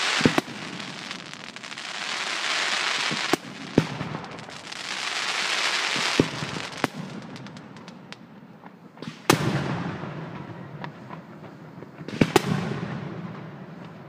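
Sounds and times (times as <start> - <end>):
firework shells bursting with bangs: 0.0 - 14.0.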